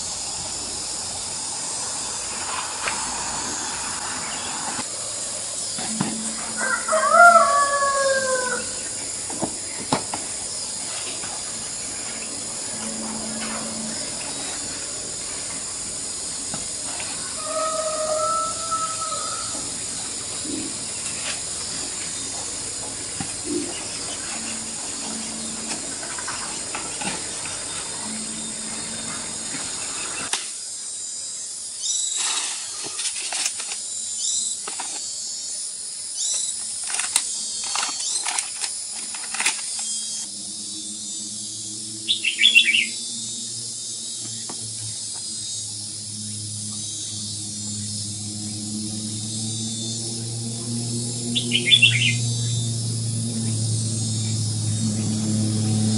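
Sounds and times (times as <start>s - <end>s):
high-pitched background drone: 0.0s - 30.3s, 36.2s - 55.9s
low hum: 0.0s - 30.3s, 39.3s - 55.9s.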